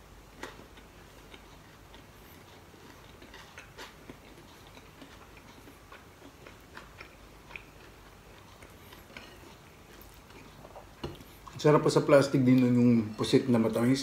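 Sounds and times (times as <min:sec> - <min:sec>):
close-up chewing: 0:00.0 - 0:14.0.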